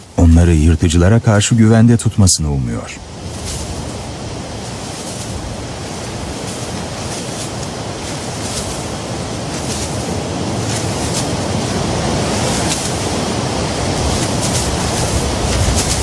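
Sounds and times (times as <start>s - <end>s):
sand swishing: 0.0s - 16.0s
surf washing on beach: 0.0s - 16.0s.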